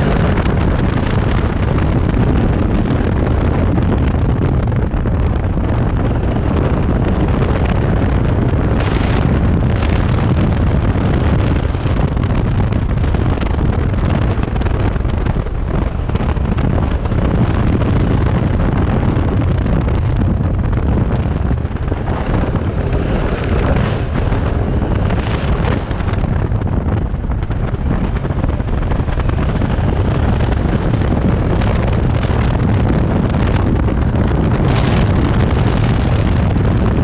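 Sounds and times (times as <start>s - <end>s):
motorcycle engine running: 0.0s - 37.0s
wind buffeting on microphone: 0.0s - 37.0s.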